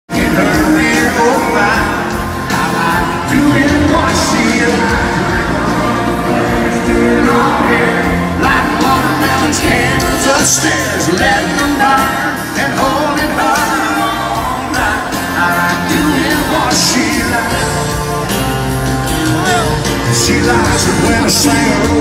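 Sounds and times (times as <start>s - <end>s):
live country band with singing: 0.1s - 22.0s.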